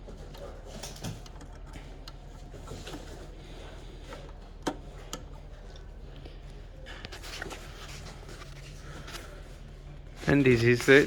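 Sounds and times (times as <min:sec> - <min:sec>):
hands rustling wiring: 0:00.0 - 0:11.0.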